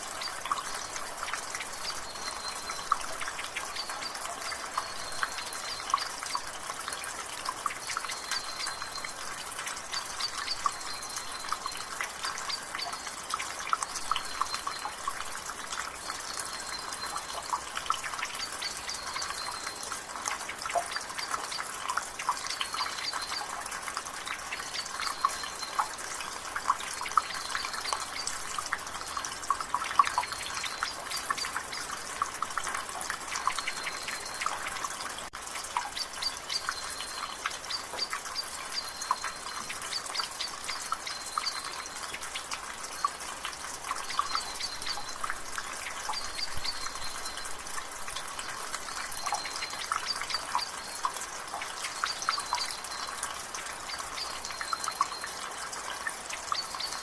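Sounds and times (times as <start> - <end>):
rain and drizzle: 0.0 - 57.0
water dripping from a gutter: 0.0 - 57.0.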